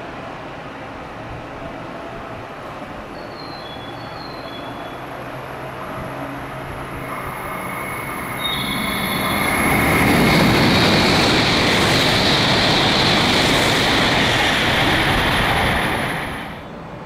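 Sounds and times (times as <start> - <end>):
bullet train passing: 0.0 - 17.0.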